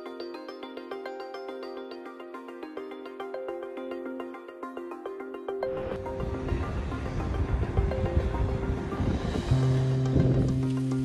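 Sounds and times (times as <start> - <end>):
repeating pitched notes music: 0.0 - 11.0.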